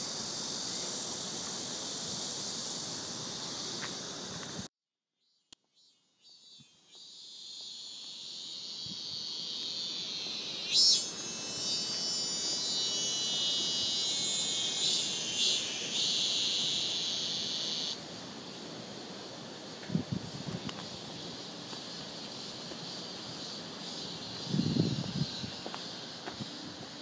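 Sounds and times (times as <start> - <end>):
shrill insect chorus: 0.0 - 27.0.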